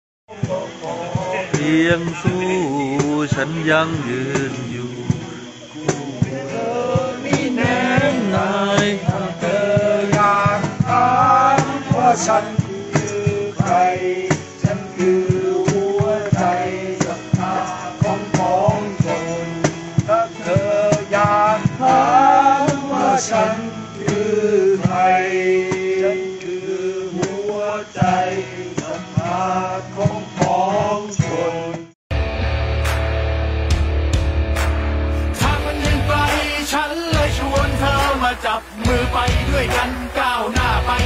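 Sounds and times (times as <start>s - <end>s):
man singing: 0.3s - 31.9s, 35.2s - 41.0s
acoustic guitar strumming: 0.3s - 41.0s.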